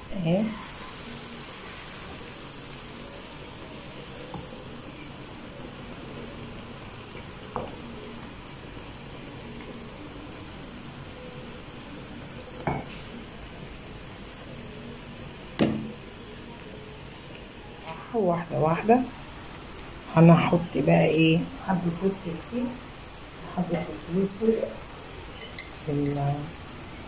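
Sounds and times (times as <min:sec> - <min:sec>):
batter sizzling in a frying pan: 0:00.0 - 0:27.0.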